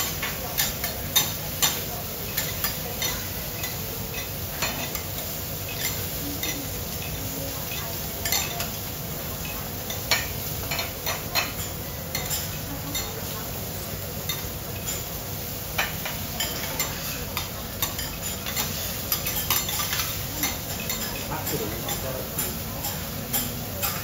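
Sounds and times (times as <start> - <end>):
metal utensils tapping on griddle: 0.0 - 13.4, 15.8 - 24.0
food sizzling: 0.0 - 24.0.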